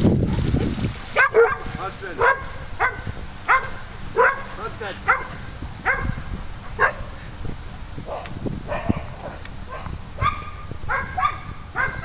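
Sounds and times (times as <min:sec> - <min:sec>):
dogs barking in yips: 0:01.2 - 0:07.2, 0:08.0 - 0:12.0.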